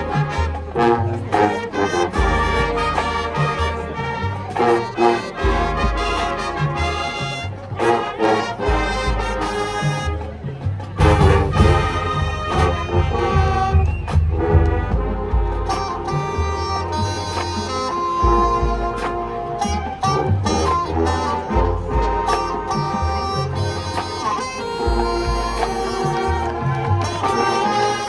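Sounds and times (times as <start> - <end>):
marching band playing: 0.0 - 28.0.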